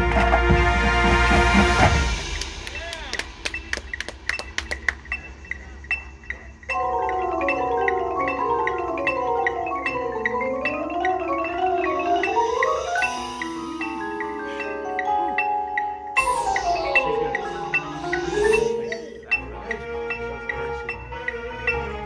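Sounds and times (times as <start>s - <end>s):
marimbas and mallet percussion: 1.9s - 22.0s.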